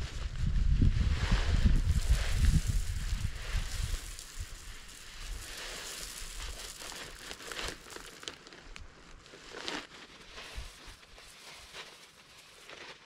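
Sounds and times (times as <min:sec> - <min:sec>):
footsteps in dry pine needles: 0:01.0 - 0:13.0
sharp crackles: 0:01.6 - 0:13.0
bag crinkling and rustling: 0:01.8 - 0:13.0.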